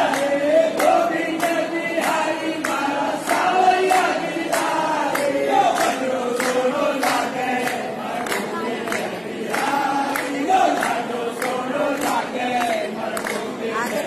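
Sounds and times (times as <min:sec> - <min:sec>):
crowd chanting in unison: 0:00.0 - 0:14.0.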